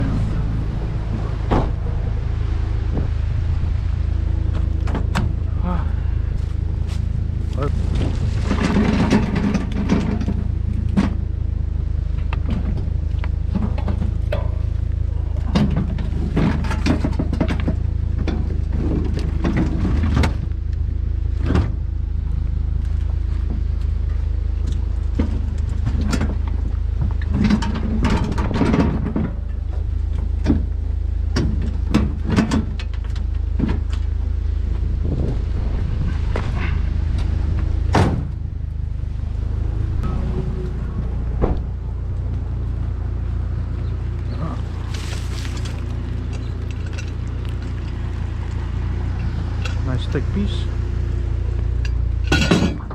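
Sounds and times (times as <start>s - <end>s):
vehicle engine and road rumble: 0.0s - 52.9s.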